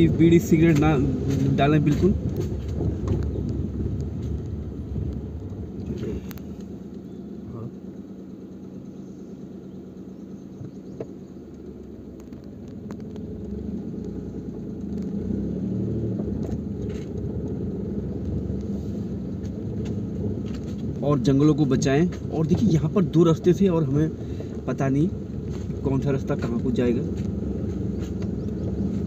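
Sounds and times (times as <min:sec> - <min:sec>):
vehicle rumbling on dirt track: 0:00.0 - 0:29.0.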